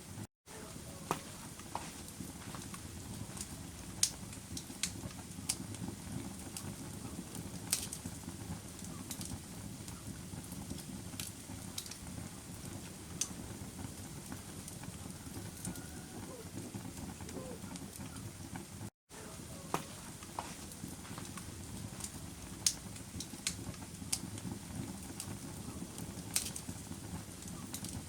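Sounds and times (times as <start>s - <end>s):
low rumble of flames: 0.0s - 28.0s
wood crackles and pops: 0.7s - 18.9s, 19.5s - 28.0s.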